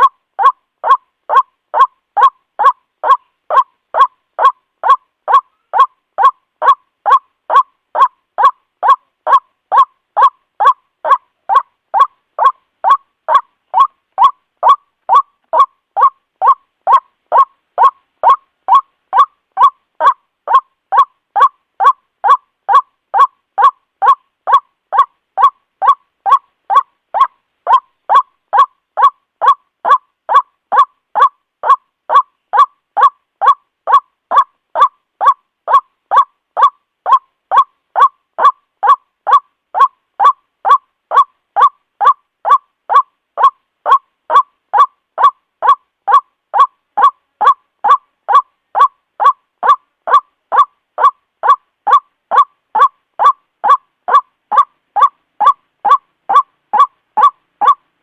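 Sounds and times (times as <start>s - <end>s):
harsh nasal bird calls: 0.0s - 57.8s.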